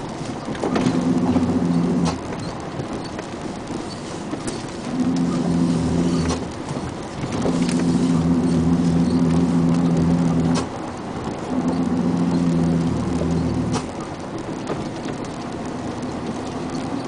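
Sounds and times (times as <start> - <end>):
truck engine: 0.0 - 17.0.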